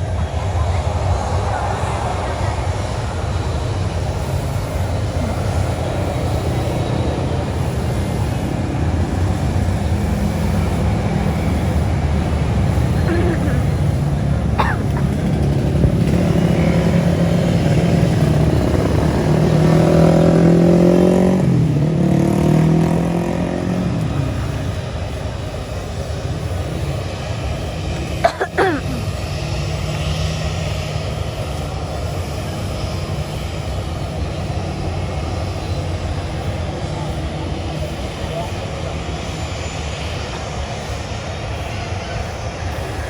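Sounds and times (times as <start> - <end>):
engine hum: 0.0 - 43.0.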